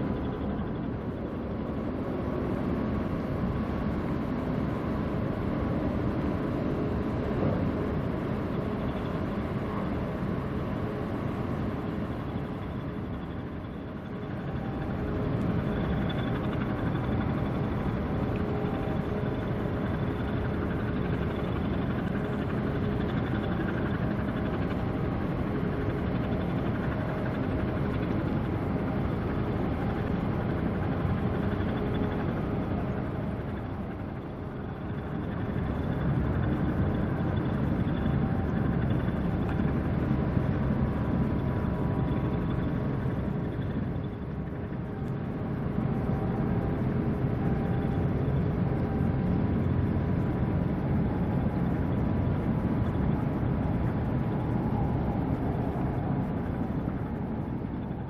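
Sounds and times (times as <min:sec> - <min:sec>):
low engine rumble: 0:00.0 - 0:58.0.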